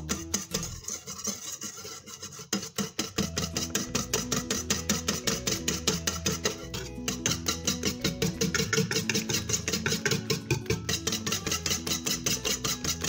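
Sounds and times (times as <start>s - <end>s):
light background music: 0.0s - 0.9s, 3.2s - 13.0s
whisk scraping metal bowl: 0.0s - 13.0s.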